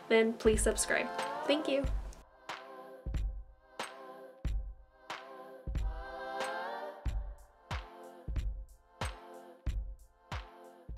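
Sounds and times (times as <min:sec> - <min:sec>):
instrumental music with drum beat: 0:00.0 - 0:10.9.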